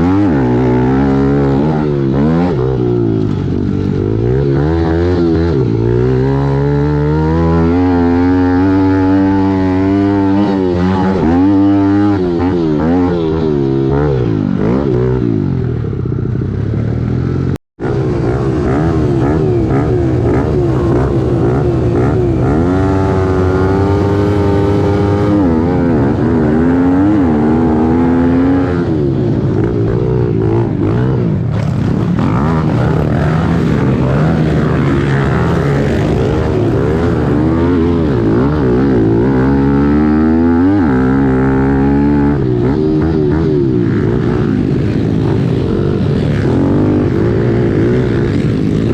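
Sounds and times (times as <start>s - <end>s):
motorcycle engine revving hard: 0.0s - 48.9s.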